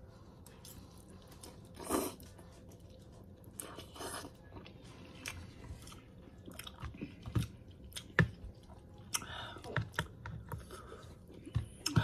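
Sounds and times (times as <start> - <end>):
chewing noodles: 0.2 - 12.0.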